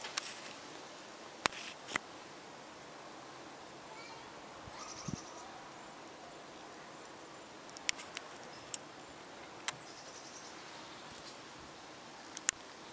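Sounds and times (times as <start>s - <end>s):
steady outdoor hiss: 0.0s - 12.9s.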